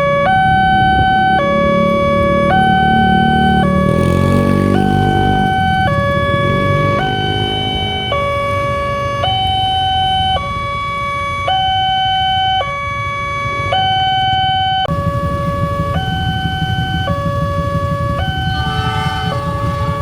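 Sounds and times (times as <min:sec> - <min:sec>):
two-tone crossing siren: 0:00.0 - 0:20.0.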